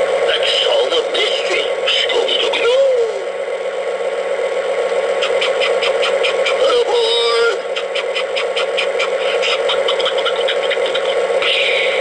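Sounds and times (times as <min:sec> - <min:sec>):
toy train diesel engine sound: 0:00.0 - 0:12.0.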